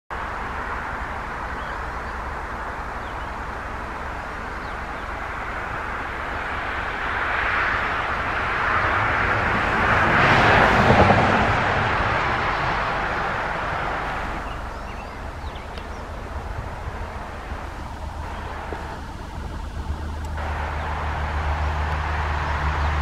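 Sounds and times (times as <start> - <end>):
vehicle passing: 0.2 - 23.0.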